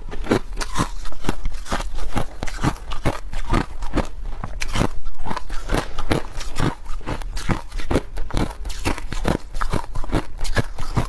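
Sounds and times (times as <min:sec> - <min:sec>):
ice crunching between teeth: 0:00.0 - 0:11.0.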